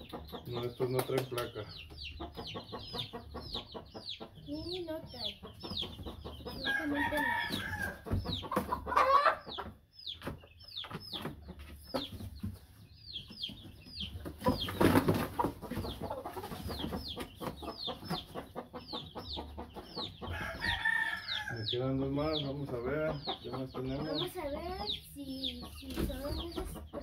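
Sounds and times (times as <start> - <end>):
roosters clucking and crowing: 0.0 - 27.0.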